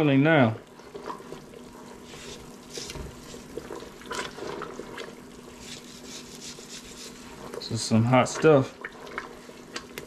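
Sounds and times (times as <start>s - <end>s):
syrup boiling and bubbling: 0.0s - 10.0s.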